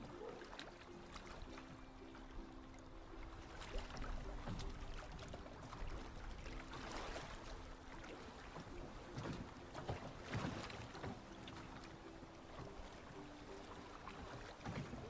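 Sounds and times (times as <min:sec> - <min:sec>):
water lapping around a boat: 0:00.0 - 0:15.0
waves washing: 0:00.0 - 0:15.0.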